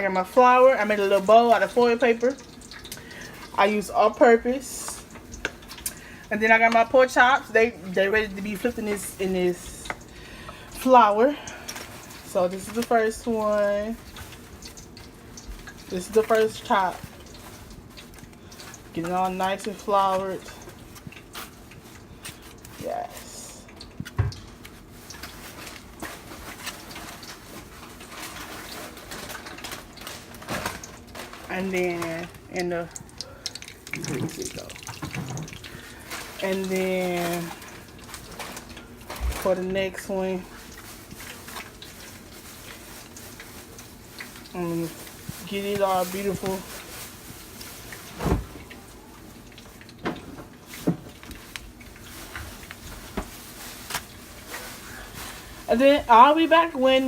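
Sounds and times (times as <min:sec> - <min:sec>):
meat frying crackling and popping: 0:00.0 - 0:57.0.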